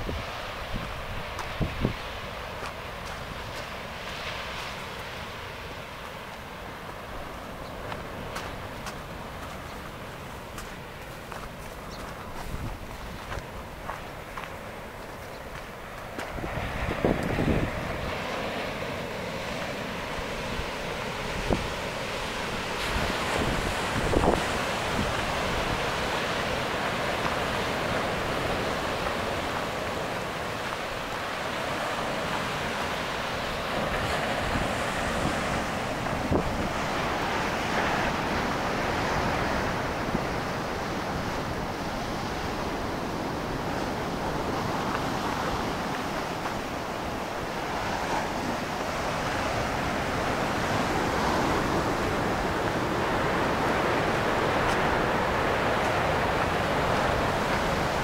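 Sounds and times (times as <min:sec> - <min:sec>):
ocean surf breaking: 0:00.0 - 0:58.0
wind gusts on microphone: 0:00.0 - 0:58.0.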